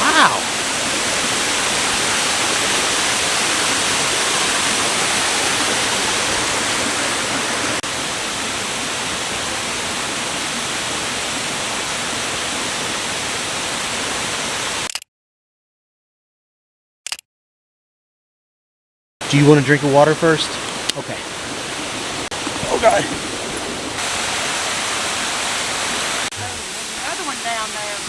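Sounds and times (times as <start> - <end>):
waterfall rushing: 0.0 - 14.9, 19.2 - 28.0.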